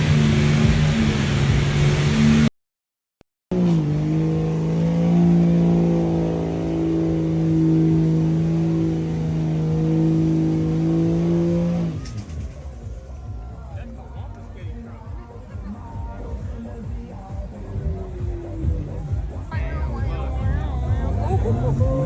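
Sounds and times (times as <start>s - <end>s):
truck engine running steadily: 0.0s - 2.5s, 3.5s - 22.0s.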